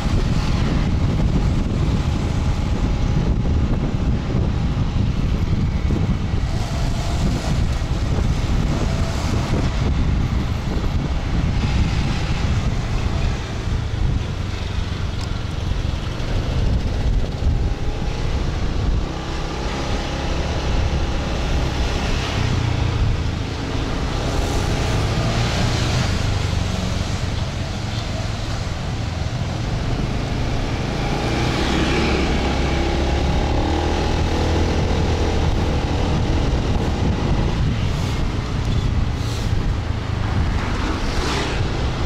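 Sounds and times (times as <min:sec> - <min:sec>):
traffic: 0:00.0 - 0:42.0
wind buffeting microphone: 0:00.0 - 0:42.0.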